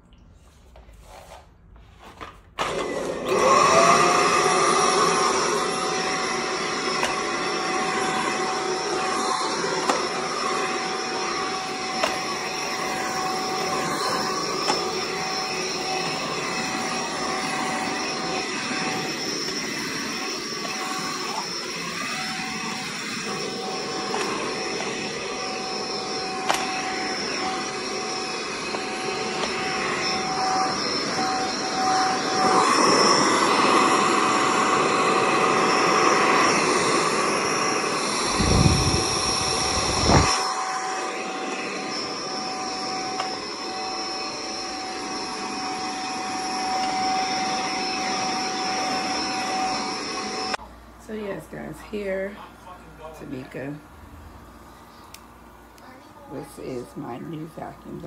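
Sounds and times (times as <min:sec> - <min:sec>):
vacuum cleaner running: 0:00.4 - 0:58.0.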